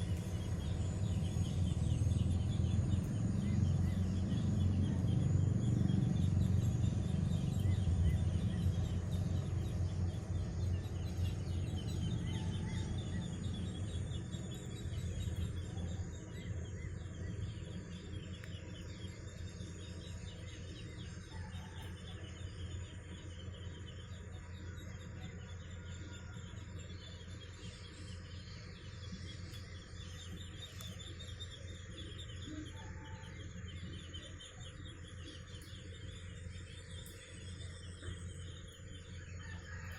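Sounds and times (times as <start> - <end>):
birds chirping: 0.0 - 39.9
insects chirping: 0.0 - 39.9
tugboat engine drone: 0.0 - 39.9.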